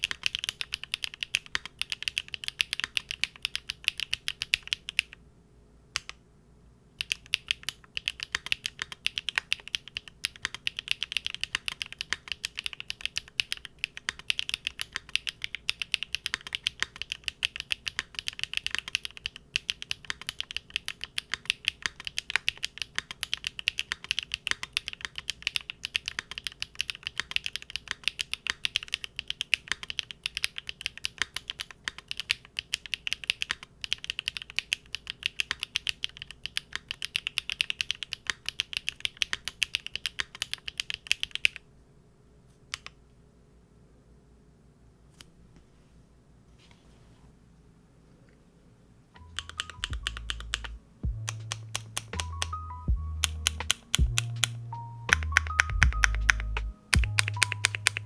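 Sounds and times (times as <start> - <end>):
mechanical keyboard typing: 0.0 - 5.2, 6.0 - 6.2, 7.0 - 41.6, 42.7 - 43.0, 49.2 - 58.0.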